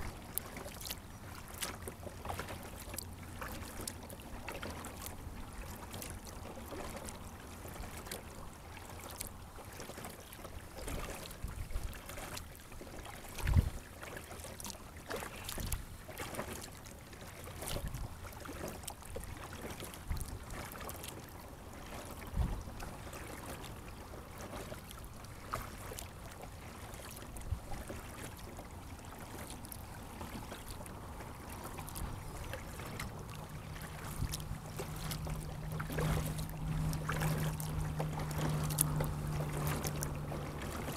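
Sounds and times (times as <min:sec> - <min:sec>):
water splashing and lapping: 0:00.0 - 0:40.9.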